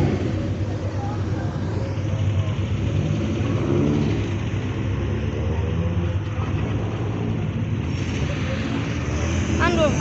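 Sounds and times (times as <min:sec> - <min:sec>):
cars driving slowly past: 0:00.0 - 0:10.0.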